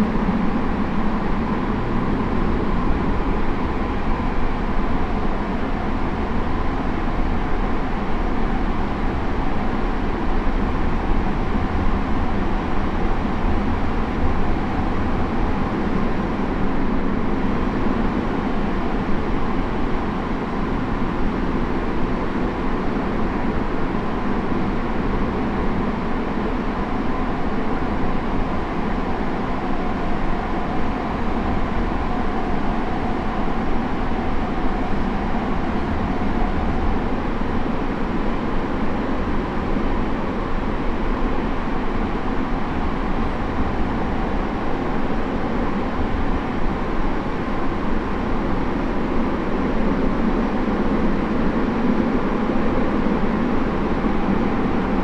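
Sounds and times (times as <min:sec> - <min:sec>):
faint steady whine: 0:00.0 - 0:55.0.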